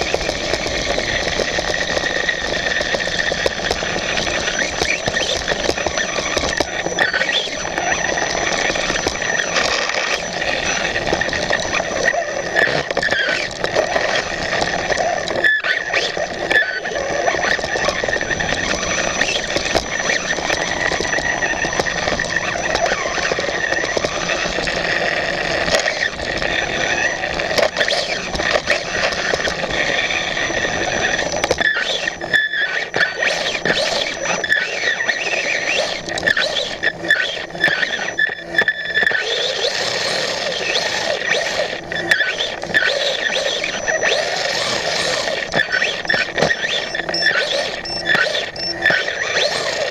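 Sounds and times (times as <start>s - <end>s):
thin high motor whine: 0.0s - 49.9s.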